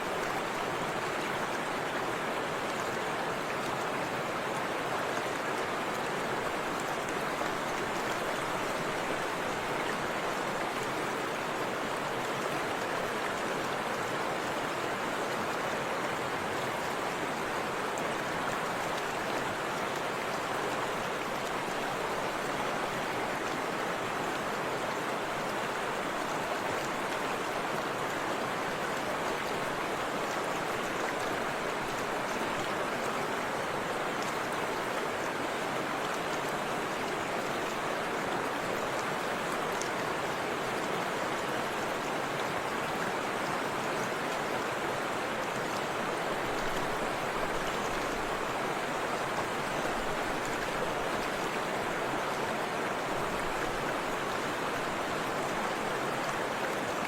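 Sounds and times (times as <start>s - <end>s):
river and waterfall rushing: 0.0s - 57.0s.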